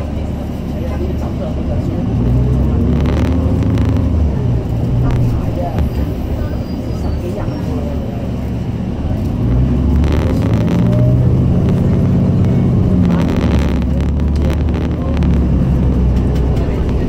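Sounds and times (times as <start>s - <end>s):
bus engine running under load: 0.0s - 17.0s.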